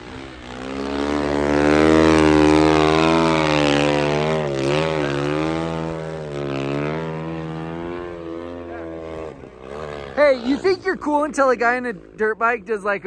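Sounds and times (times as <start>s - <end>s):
dirt bike engine at high revs: 0.0s - 13.0s.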